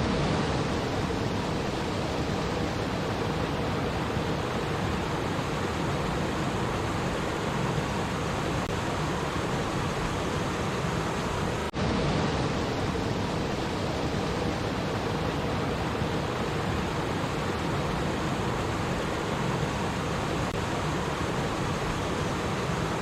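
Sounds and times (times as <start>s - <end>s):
stream water babbling: 0.0s - 23.0s.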